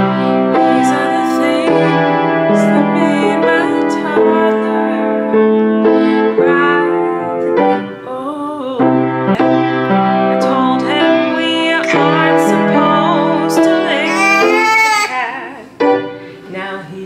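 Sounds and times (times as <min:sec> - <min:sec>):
piano chords and melody: 0:00.0 - 0:16.6.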